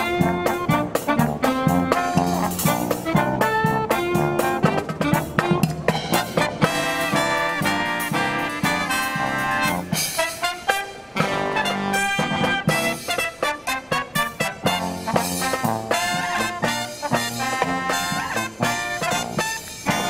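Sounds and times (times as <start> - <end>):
drum strokes: 0.0 - 20.0
trumpets and trombones melody: 0.0 - 20.0.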